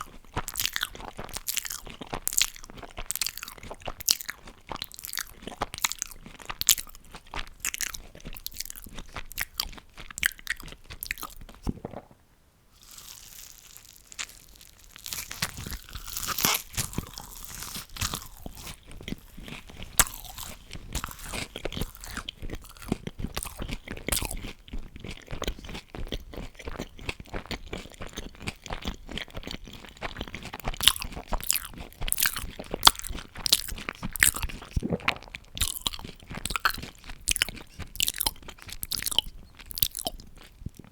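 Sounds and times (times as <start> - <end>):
crunchy bites and chewing: 0.0 - 12.2, 12.8 - 40.9.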